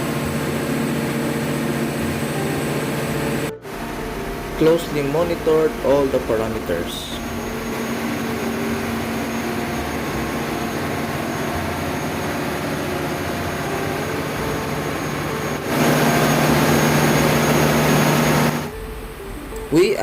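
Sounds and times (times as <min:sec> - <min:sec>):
diesel generator humming: 0:00.0 - 0:20.0.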